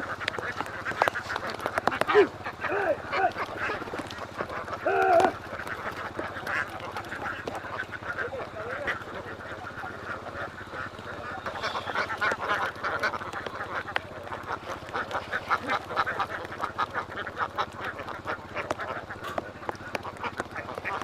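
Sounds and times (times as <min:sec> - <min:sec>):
flock of ducks quacking: 0:00.0 - 0:21.0.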